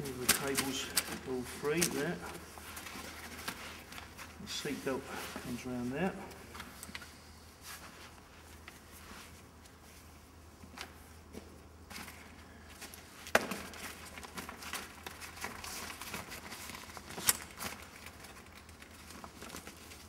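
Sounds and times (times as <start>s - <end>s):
straps and cables rustling: 0.0s - 20.0s.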